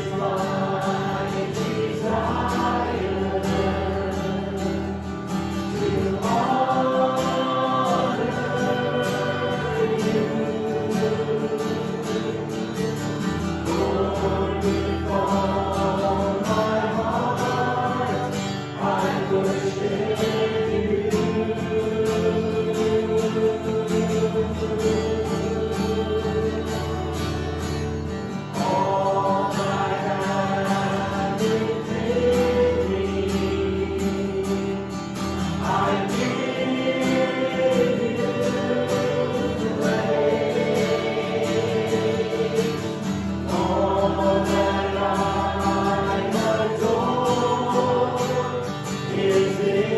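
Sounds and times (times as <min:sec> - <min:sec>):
group singing slow worship song: 0:00.0 - 0:49.9.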